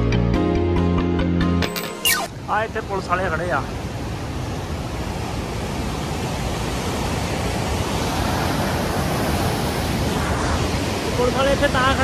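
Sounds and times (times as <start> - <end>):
river rushing: 1.9 - 12.0.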